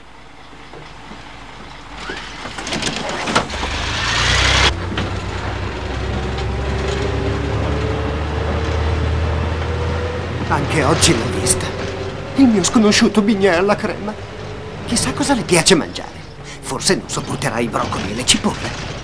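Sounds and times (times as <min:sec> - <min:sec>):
bus engine rumbling: 0:00.0 - 0:19.0.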